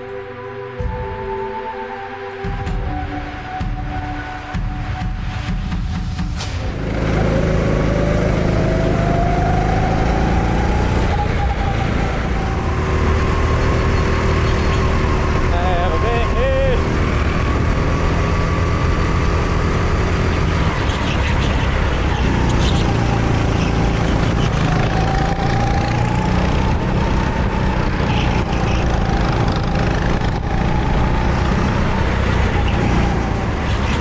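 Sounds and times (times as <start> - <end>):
go-kart engine revving: 6.6 - 34.0.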